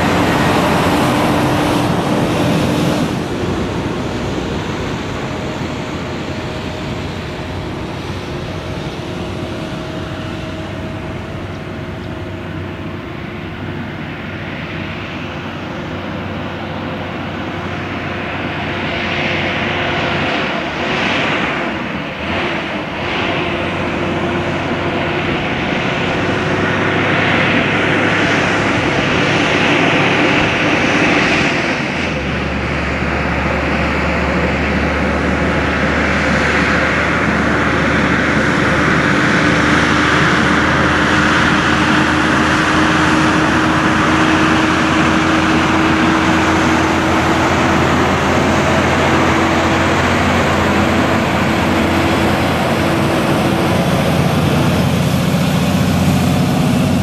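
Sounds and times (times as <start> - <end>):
truck diesel engine: 0.0 - 57.0.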